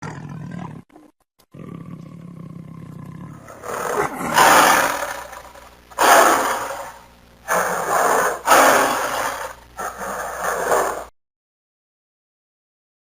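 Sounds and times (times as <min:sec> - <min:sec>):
big cat growling and roaring: 0:00.0 - 0:11.1.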